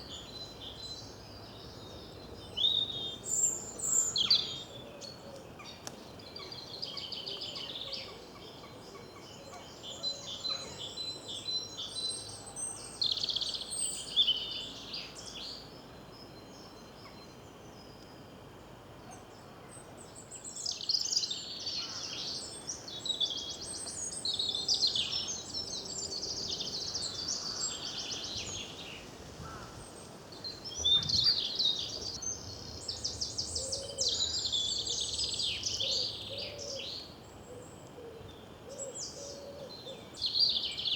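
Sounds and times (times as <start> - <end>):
songbirds trilling: 0.0 - 18.1, 19.0 - 40.9.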